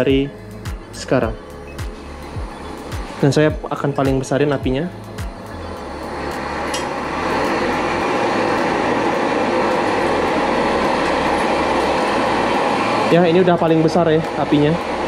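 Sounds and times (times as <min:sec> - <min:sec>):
gas stove burning: 0:00.0 - 0:15.0.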